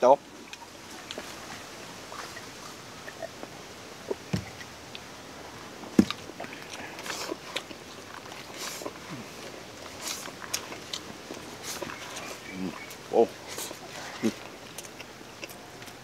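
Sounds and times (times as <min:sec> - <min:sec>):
chewing: 0:00.4 - 0:05.1, 0:06.0 - 0:16.0.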